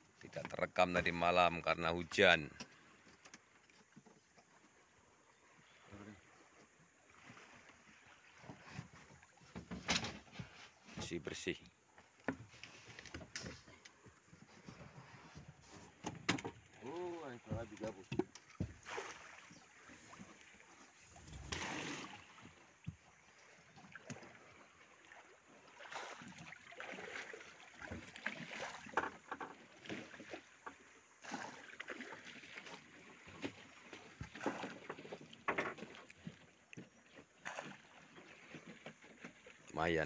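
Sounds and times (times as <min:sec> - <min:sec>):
water lapping at hull: 0:00.0 - 0:40.0.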